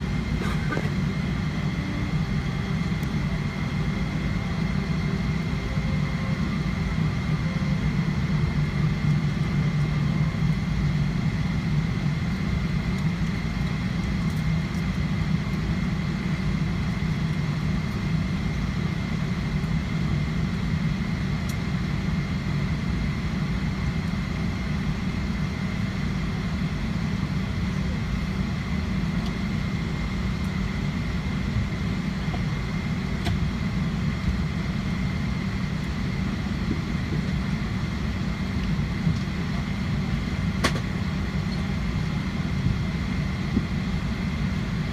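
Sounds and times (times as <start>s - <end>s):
high engine whine: 0.0s - 44.9s
jet engines idling: 0.0s - 44.9s.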